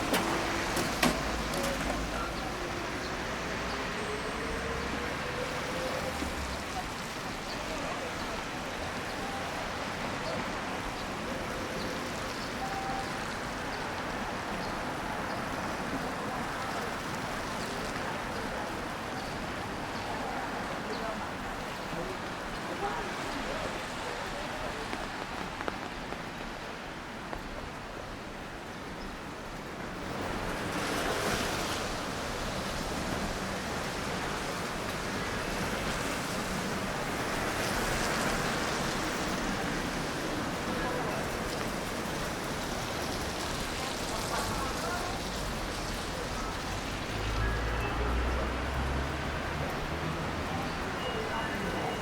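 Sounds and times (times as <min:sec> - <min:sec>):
tyres hissing on wet road: 0:00.0 - 0:52.0.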